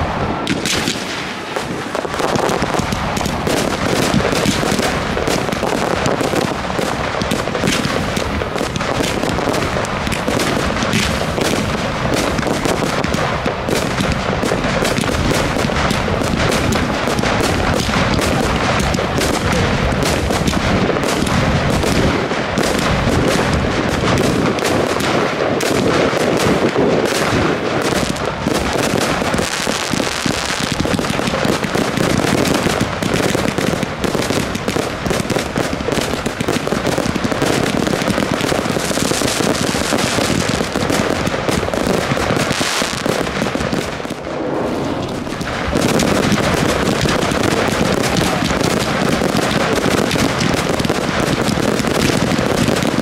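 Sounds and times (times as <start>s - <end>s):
fireworks bangs and crackles: 0.0s - 53.0s
hissing crackle: 0.0s - 53.0s.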